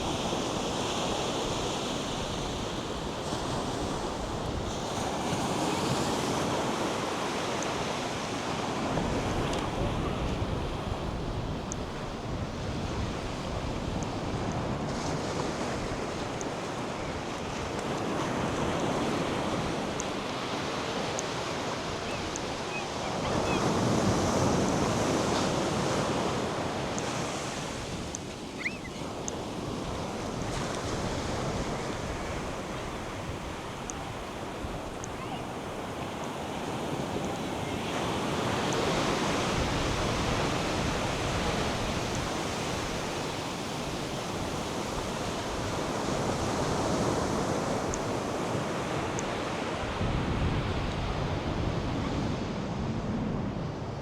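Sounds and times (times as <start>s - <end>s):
surf breaking on a beach: 0.0s - 54.0s
wind buffeting the microphone: 0.0s - 54.0s.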